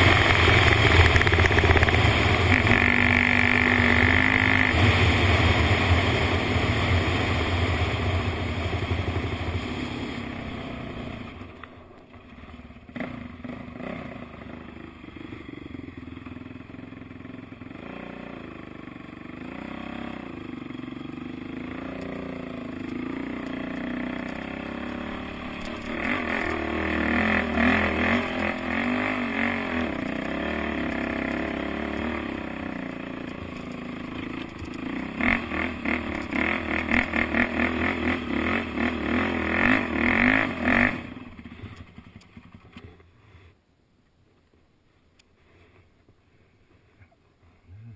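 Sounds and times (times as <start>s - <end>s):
quad bike engine revving: 0.0s - 43.0s.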